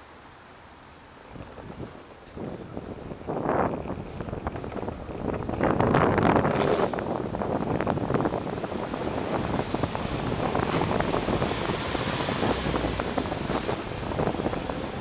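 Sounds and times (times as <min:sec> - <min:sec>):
skateboard wheels rumbling on concrete: 0:01.3 - 0:15.0
wind on microphone: 0:01.3 - 0:15.0.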